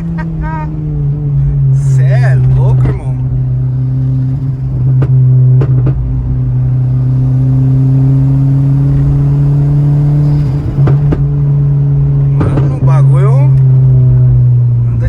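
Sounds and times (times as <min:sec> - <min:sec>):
car engine drone under load: 0:00.0 - 0:15.0.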